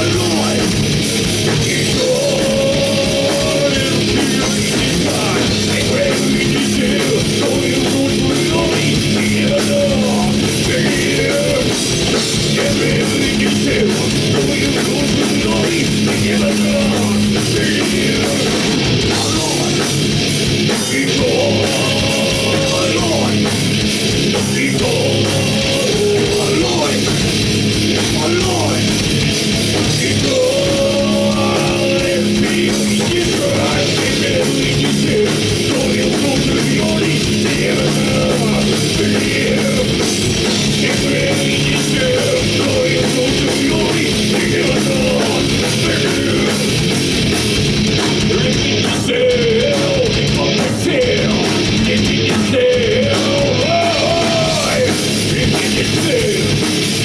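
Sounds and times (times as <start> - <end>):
heavy rock band playing live: 0.0 - 57.0.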